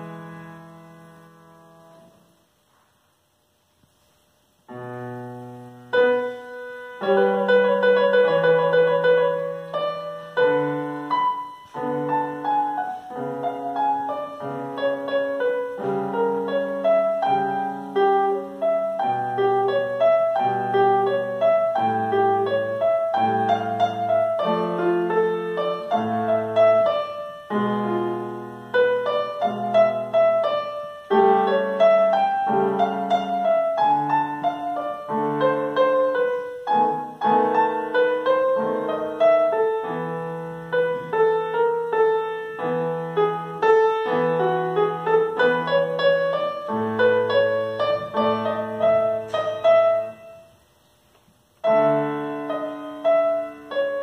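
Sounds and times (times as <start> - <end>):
grand piano playing: 0.0 - 2.4, 4.7 - 54.0.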